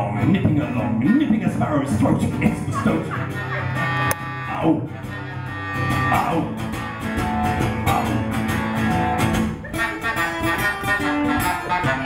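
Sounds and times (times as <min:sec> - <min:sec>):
acoustic guitar strumming: 0:00.0 - 0:12.0
crumhorn reedy notes: 0:01.0 - 0:12.0.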